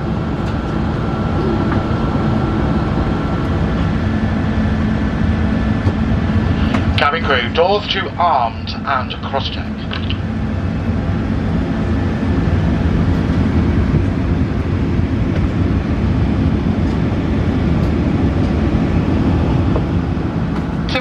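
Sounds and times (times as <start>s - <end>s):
aircraft cabin low rumble: 0.0s - 21.0s.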